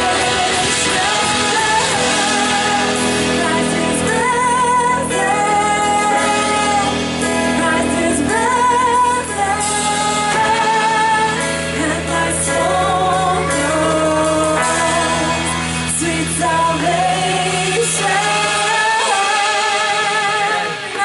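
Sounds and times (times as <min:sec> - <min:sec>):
band playing: 0:00.0 - 0:21.0
person singing with vibrato: 0:00.0 - 0:21.0.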